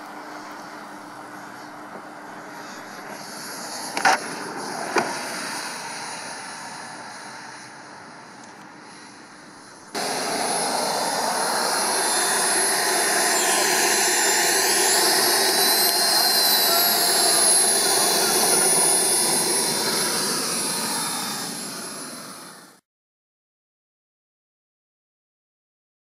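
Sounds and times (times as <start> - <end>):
model jet turbine whining: 0.0 - 22.8.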